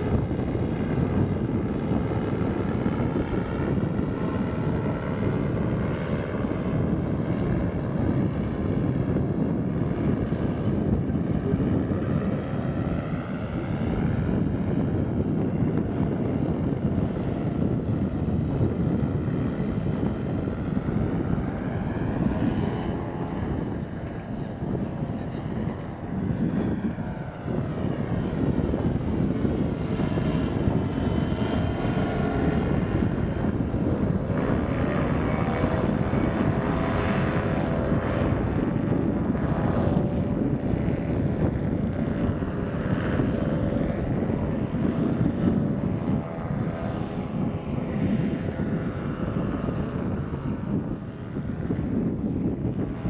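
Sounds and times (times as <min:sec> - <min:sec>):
paramotor engine buzzing: 0:00.0 - 0:53.0.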